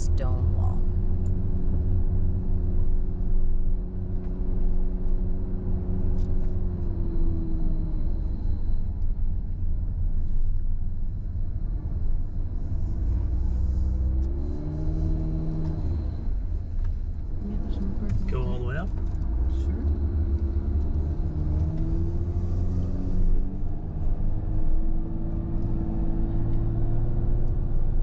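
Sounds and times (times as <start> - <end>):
car engine: 0.0 - 28.0
road rumble: 0.0 - 28.0.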